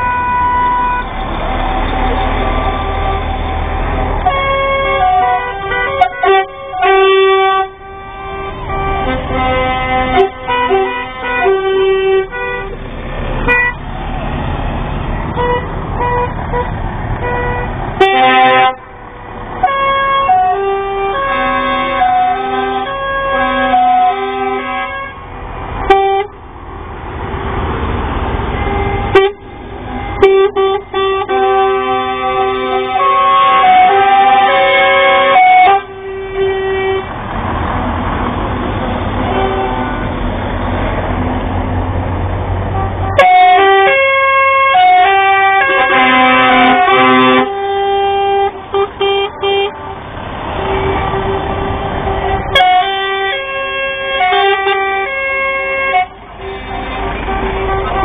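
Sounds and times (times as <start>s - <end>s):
truck air horn blasts: 0.0s - 1.2s, 4.1s - 13.8s, 15.3s - 26.5s, 28.4s - 37.1s, 39.1s - 40.3s, 42.6s - 58.0s
lorry engine rumbling: 0.0s - 58.0s.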